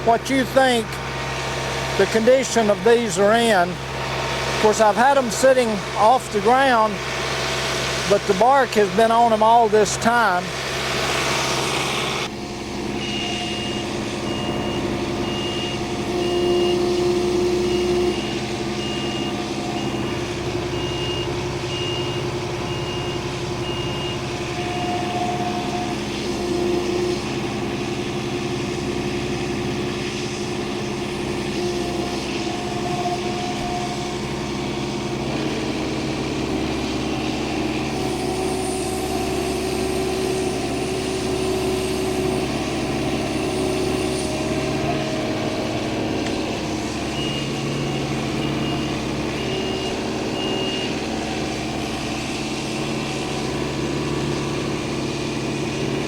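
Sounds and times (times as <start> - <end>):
reversing alarm beeping: 0.0 - 3.9, 4.6 - 7.0, 7.8 - 56.0
machinery engine running: 0.0 - 56.0.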